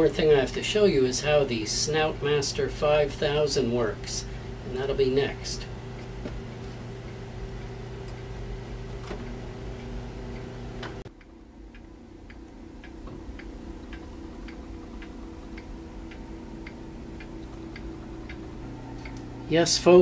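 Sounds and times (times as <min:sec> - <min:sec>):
fume hood fan humming: 0:00.0 - 0:20.0
light ticking: 0:00.1 - 0:19.6.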